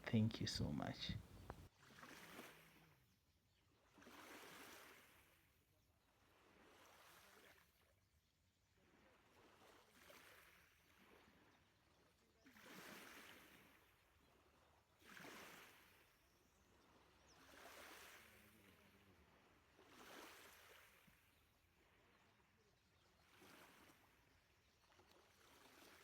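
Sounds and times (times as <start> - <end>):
faint lake water lapping: 0.0 - 26.0.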